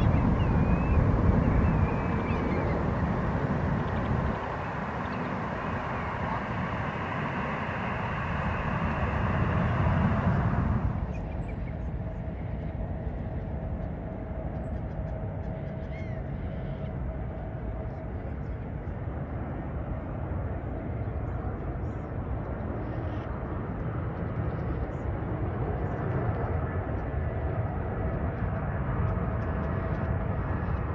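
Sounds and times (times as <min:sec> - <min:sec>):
jet engine rumble: 0:00.0 - 0:30.9.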